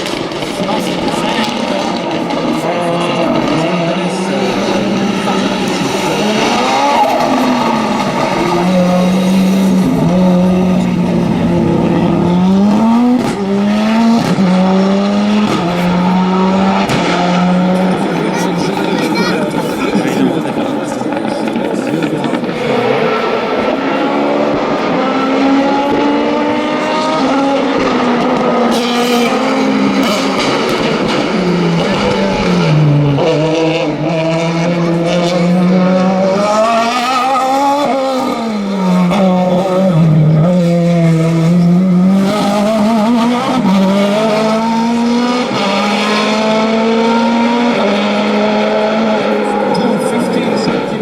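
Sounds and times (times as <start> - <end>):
race car engine revving: 0.0 - 51.0.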